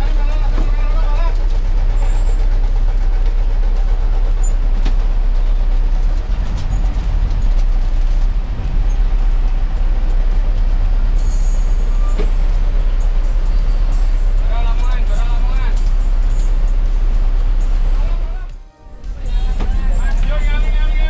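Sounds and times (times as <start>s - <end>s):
diesel bus engine rumbling: 0.0s - 21.0s.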